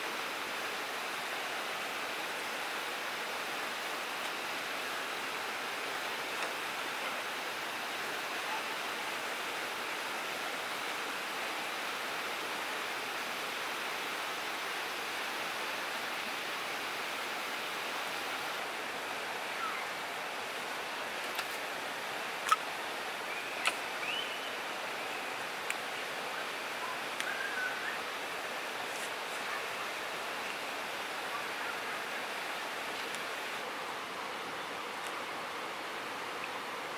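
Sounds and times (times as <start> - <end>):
river rushing: 0.0 - 36.9.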